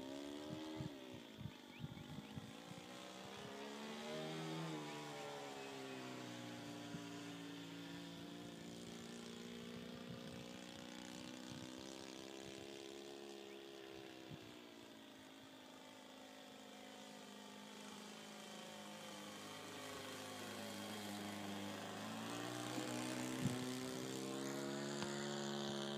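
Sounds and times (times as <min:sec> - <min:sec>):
model airplane motor droning: 0:00.0 - 0:25.9.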